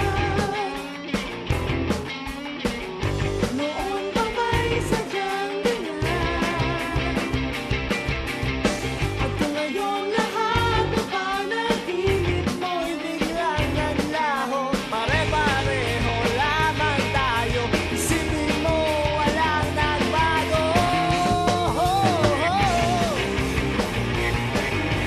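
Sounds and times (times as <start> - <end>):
rock song with lead vocal: 0.0 - 25.0.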